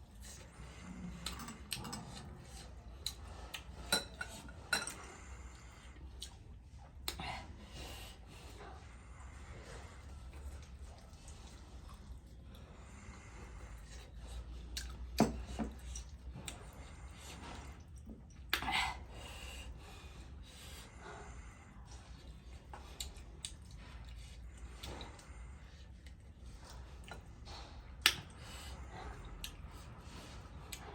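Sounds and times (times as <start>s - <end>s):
quiet chewing: 0.0s - 30.9s.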